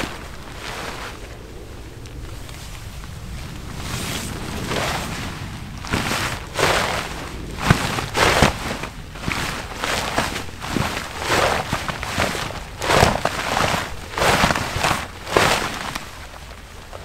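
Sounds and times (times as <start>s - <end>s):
tent fabric rustling: 0.0s - 17.0s
wind rumbling on microphone: 0.0s - 17.0s.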